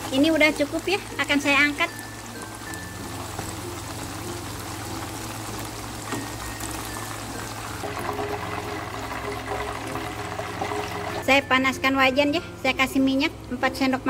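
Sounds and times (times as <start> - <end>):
chicken deep-frying in oil: 0.0 - 12.0
faint background music: 0.0 - 14.0.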